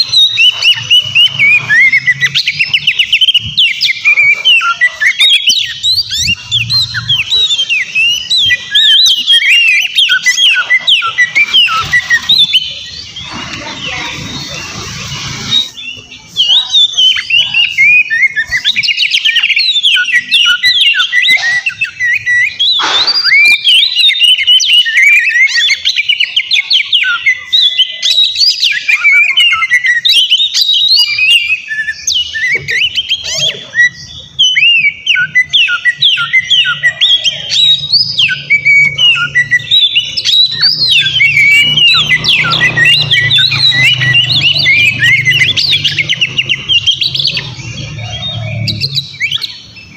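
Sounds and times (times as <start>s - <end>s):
bird singing chirps and trills: 0.0s - 49.9s.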